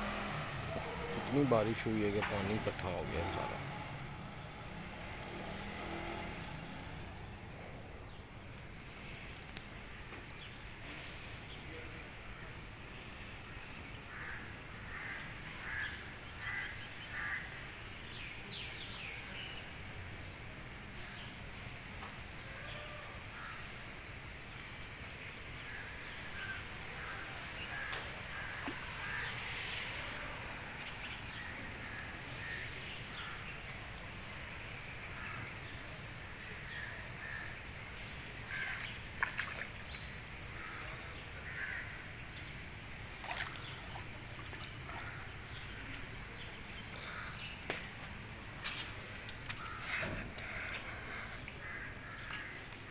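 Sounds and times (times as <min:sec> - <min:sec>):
birds calling: 0:00.0 - 0:52.9.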